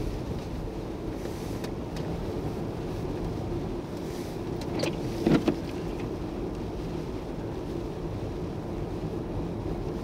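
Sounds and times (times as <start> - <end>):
traffic engine and road rumble: 0.0 - 10.0.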